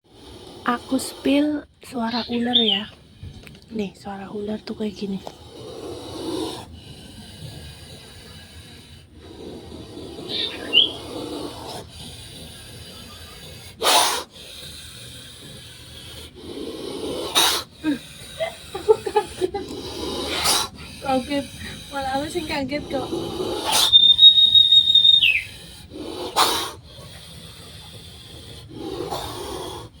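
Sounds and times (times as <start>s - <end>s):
snake hissing: 0.0s - 3.4s, 4.0s - 30.0s
low rasping snore-like sound: 0.0s - 3.5s, 4.2s - 30.0s.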